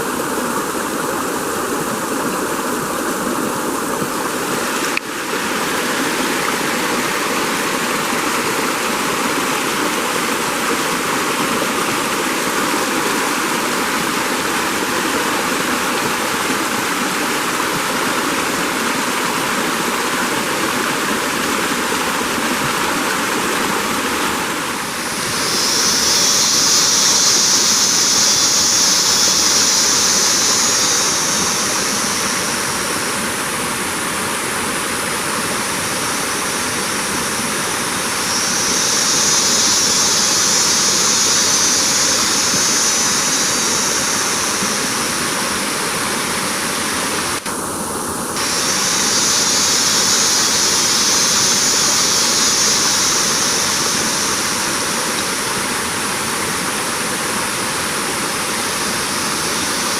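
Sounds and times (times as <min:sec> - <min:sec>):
loud high-pitched hiss: 0:00.0 - 0:59.9
running water rushing: 0:00.0 - 0:59.9.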